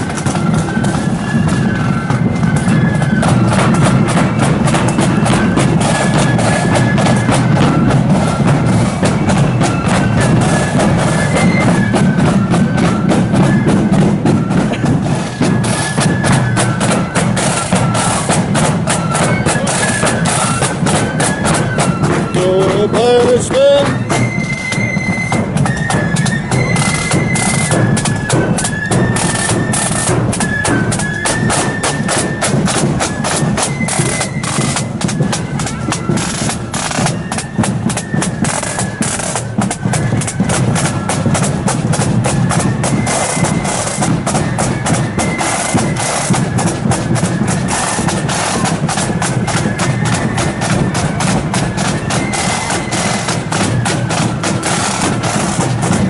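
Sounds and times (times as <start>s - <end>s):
high stepping melody line: 0.0s - 56.0s
rapid snare drumming: 0.0s - 56.0s.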